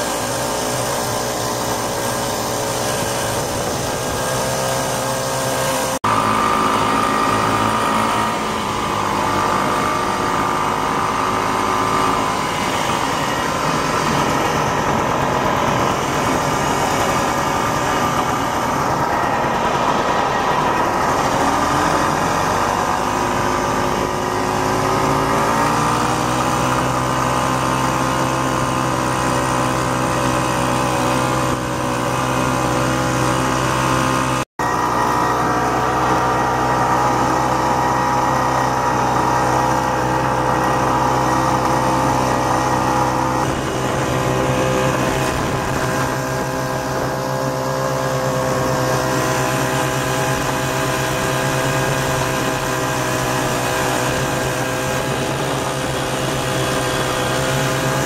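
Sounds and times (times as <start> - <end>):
snowmobile two-stroke engine running: 0.0 - 58.0.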